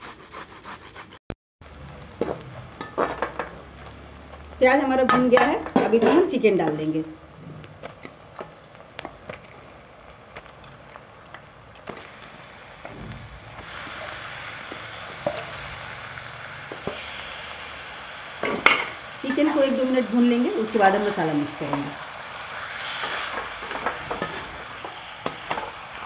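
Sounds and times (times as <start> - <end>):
onions sizzling in hot oil: 1.6 - 26.0.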